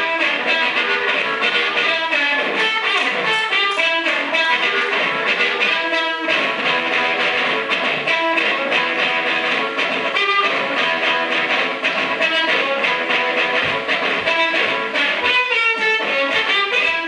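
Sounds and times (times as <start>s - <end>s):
amplified blues harmonica: 0.0s - 17.0s
steady drumbeat: 0.0s - 17.0s.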